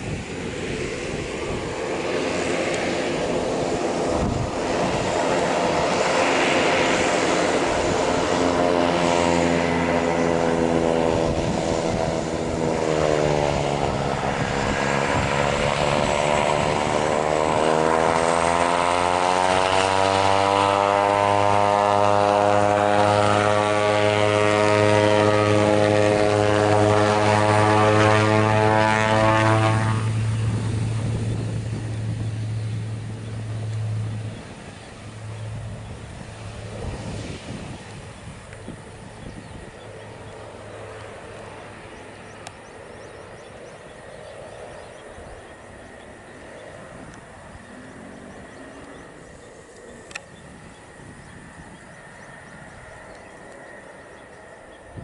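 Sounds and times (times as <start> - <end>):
deep steady drone: 0.0 - 55.0
turboprop propeller hum: 0.0 - 55.0.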